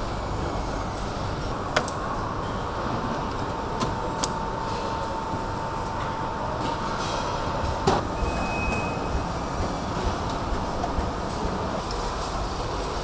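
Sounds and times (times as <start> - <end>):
machinery rumble: 0.0 - 13.0.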